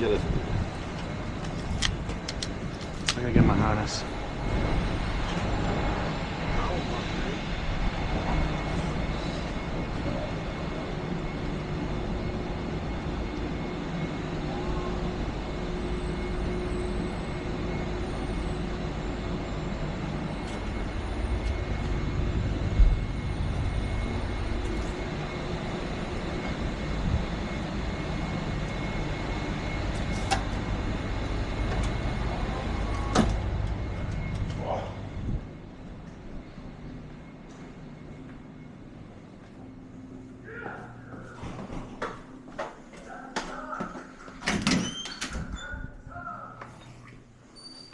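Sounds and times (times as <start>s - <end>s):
engine running low rumble: 0.0s - 41.1s.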